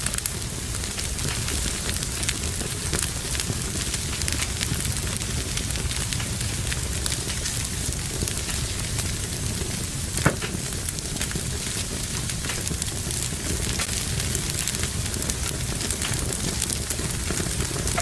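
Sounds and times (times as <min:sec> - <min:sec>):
fire hissing and crackling: 0:00.0 - 0:18.0
loud pop of fire: 0:00.0 - 0:18.0.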